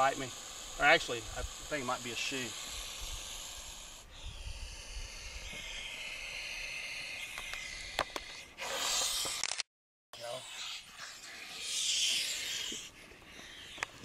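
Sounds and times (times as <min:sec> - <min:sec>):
snake hissing: 0:00.0 - 0:09.6, 0:10.2 - 0:14.0.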